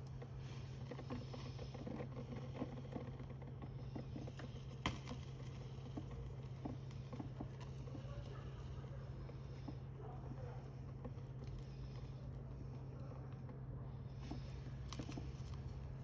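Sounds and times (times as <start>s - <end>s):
fire popping and snapping: 0.0s - 13.5s
steady low hum: 0.0s - 16.0s.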